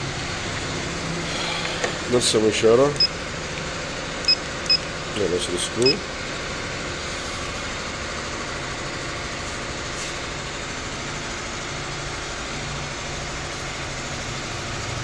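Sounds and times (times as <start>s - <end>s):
mechanical noise with low hum: 0.0s - 15.0s.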